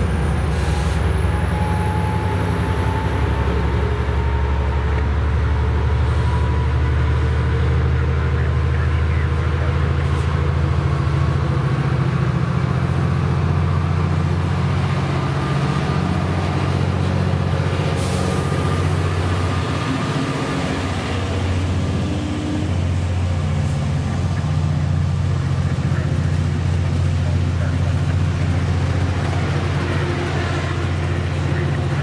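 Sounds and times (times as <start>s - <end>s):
heavy engine low drone: 0.0s - 32.0s.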